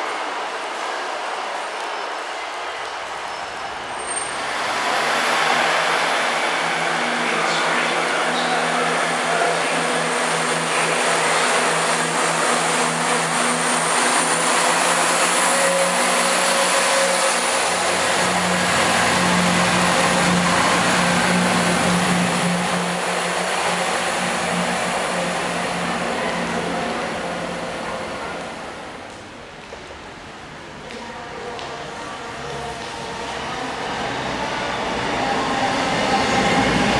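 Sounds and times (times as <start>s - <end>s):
diesel train engines droning: 2.2s - 36.9s
deep train rumble: 3.1s - 36.9s.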